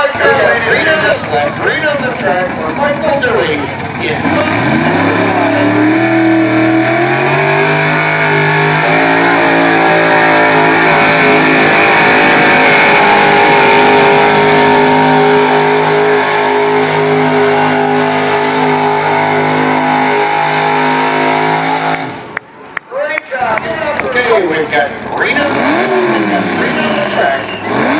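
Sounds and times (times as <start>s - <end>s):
pulling truck engine revving: 0.0s - 22.8s, 23.4s - 27.9s.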